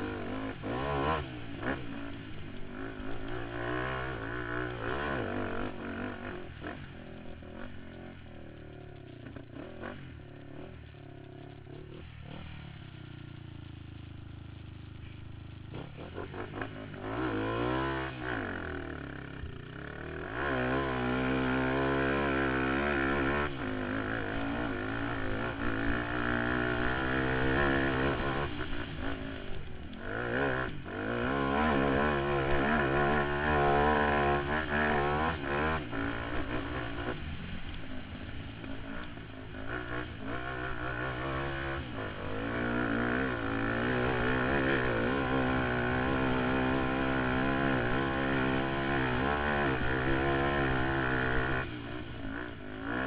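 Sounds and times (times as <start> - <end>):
quad engine revving: 0.0 - 13.8, 15.5 - 53.0.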